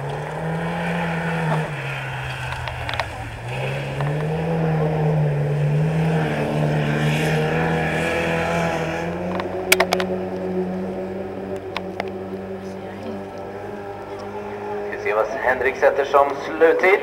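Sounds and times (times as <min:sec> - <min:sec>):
car engine at full throttle: 0:00.0 - 0:17.0.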